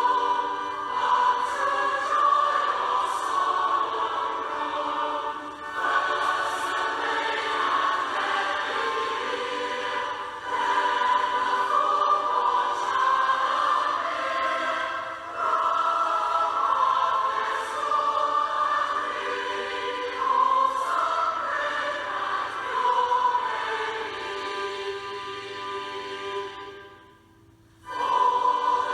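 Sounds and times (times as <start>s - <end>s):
choir singing a hymn: 0.0s - 28.9s.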